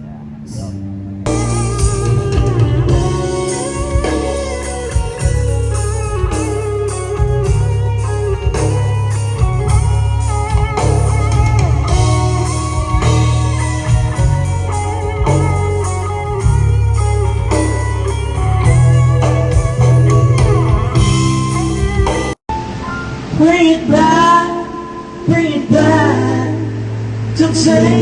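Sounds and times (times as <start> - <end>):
bass guitar: 0.0 - 22.4, 23.2 - 28.0
electric guitar: 0.0 - 28.0.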